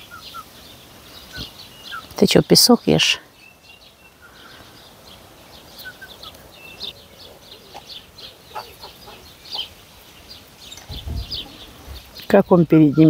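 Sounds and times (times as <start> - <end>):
birds chirping: 0.0 - 13.0
low bird calls: 0.0 - 13.0.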